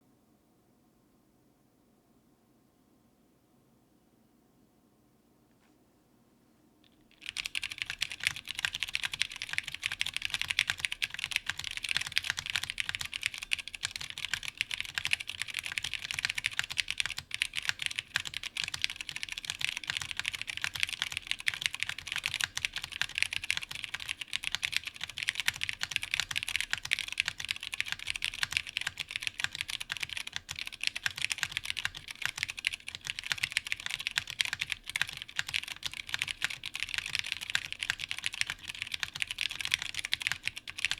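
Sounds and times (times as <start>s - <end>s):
typing on mechanical keyboard: 7.1s - 40.9s.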